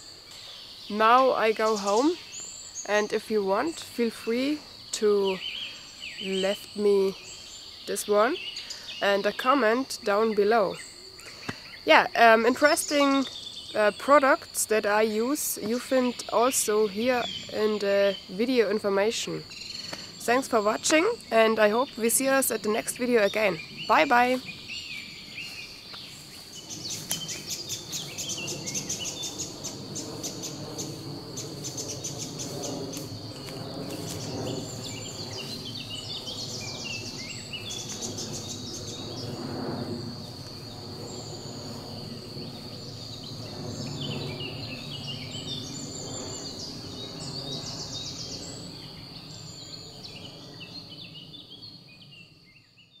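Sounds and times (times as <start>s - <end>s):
cricket trill: 0.0s - 53.0s
birds chirping and singing: 0.3s - 39.8s, 40.7s - 53.0s.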